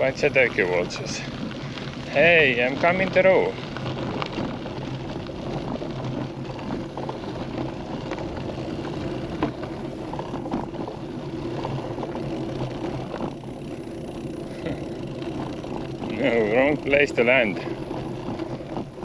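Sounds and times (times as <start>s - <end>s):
bicycle rattles and clicks: 0.0s - 19.0s
bicycle rolling and drivetrain: 0.0s - 19.0s.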